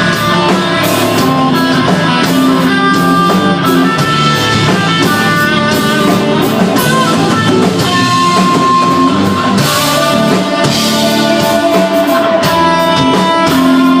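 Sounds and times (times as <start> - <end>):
bass guitar: 0.0 - 14.0
drum kit: 0.0 - 14.0
electric guitar sustained notes: 0.0 - 14.0.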